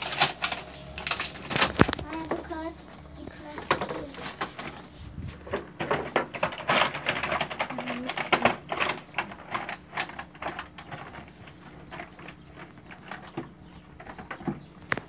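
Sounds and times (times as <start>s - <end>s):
plastic packaging crinkling: 0.0s - 2.7s, 3.3s - 14.2s.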